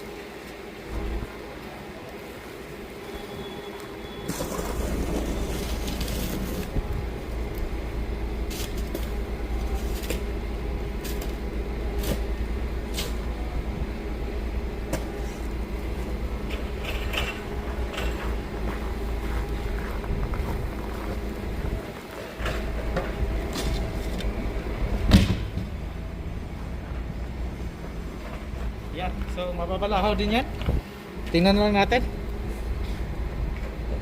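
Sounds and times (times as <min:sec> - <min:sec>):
large vehicle engine running: 0:04.0 - 0:34.0.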